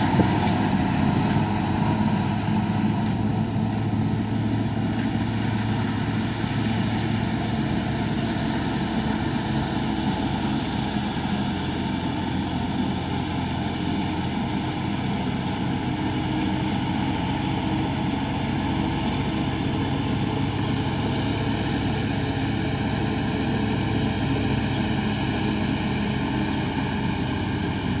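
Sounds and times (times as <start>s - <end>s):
tractor engine droning: 0.0s - 28.0s.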